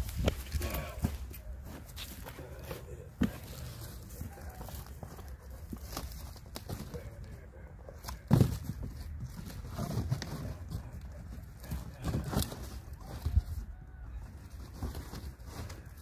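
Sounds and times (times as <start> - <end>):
cardboard rustling and scraping: 0.0 - 16.0.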